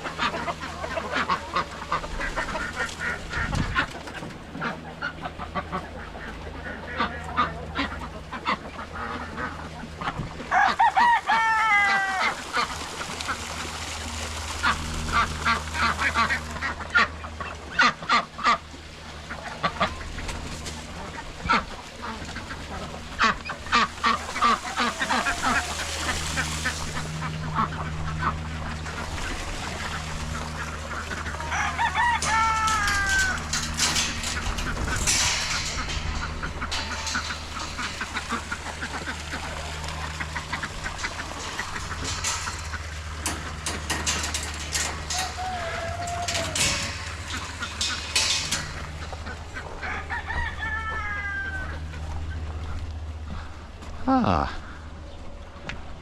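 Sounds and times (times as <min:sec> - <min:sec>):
chickens clucking: 0:00.0 - 0:55.8
ducks quacking: 0:00.0 - 0:55.8
steady low hum: 0:00.0 - 0:56.0.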